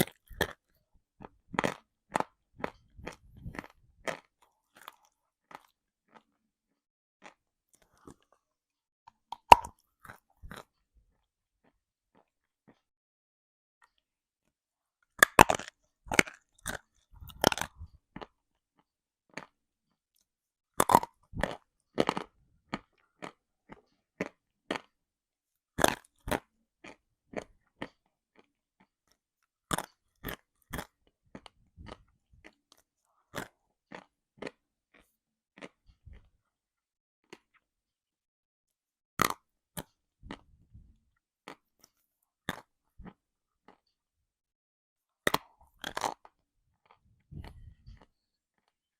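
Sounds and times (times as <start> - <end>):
person chewing crunchy earth: 0.0 - 8.6, 9.2 - 12.9, 15.2 - 19.6, 20.2 - 25.0, 25.8 - 36.3, 39.2 - 44.0, 45.2 - 48.8.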